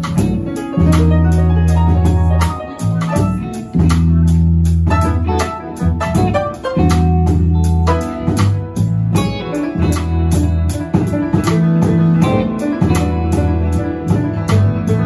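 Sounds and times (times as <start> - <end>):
drum and cymbal beat: 0.0 - 15.0
live band music: 0.0 - 15.0.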